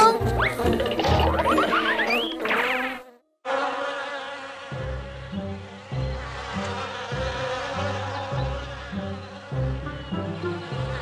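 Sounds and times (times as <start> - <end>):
cartoon bees buzzing: 0.2 - 11.0.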